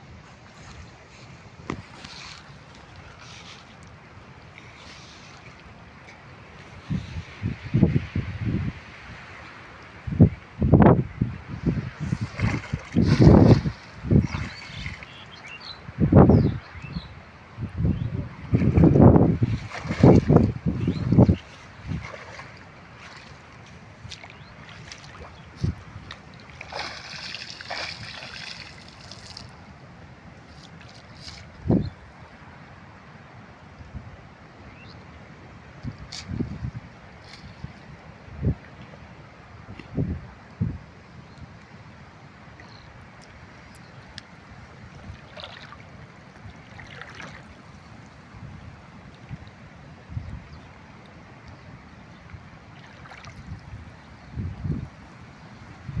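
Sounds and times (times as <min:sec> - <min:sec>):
wind: 0:00.0 - 0:56.0
water splashing and trickling: 0:00.2 - 0:32.3, 0:42.5 - 0:56.0.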